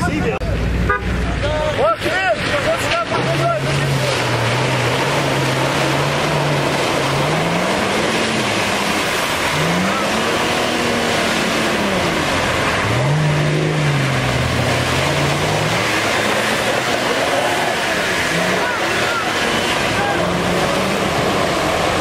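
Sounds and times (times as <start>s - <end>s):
steady rush of noise: 0.0s - 22.0s
car engine revving: 0.2s - 22.0s.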